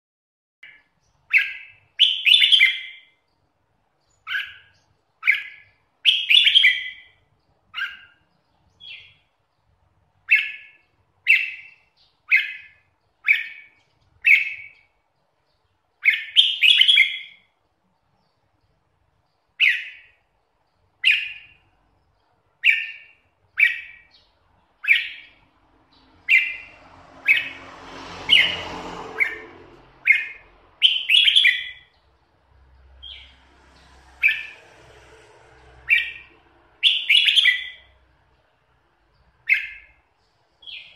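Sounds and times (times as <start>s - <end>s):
bird singing: 0.6s - 27.6s, 28.2s - 34.8s, 35.6s - 40.9s.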